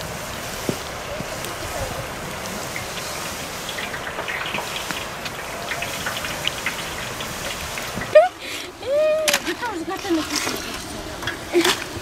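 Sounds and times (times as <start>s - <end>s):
dough frying in hot oil: 0.0s - 12.0s.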